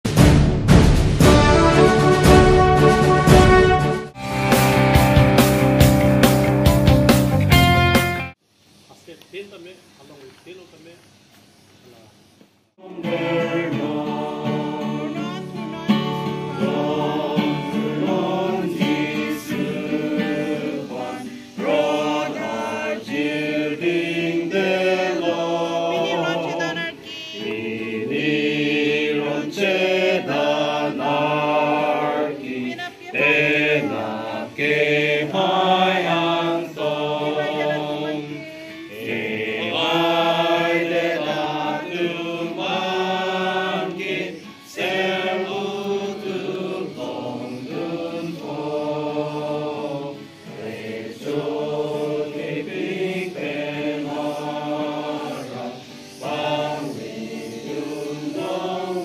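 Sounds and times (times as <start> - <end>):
group singing together: 1.2 - 6.0, 12.7 - 59.0.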